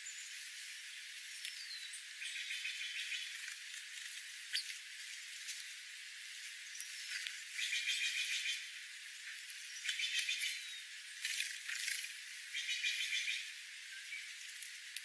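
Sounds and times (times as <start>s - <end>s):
small birds chattering: 0.0s - 15.0s
steady hiss: 0.0s - 15.0s.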